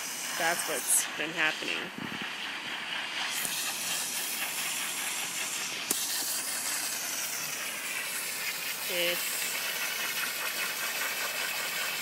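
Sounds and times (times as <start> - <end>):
water jet spraying on ground: 0.0 - 12.0.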